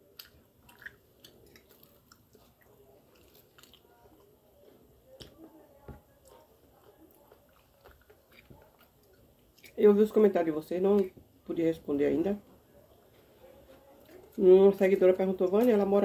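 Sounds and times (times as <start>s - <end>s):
people chewing food: 0.0s - 10.1s, 12.6s - 16.0s.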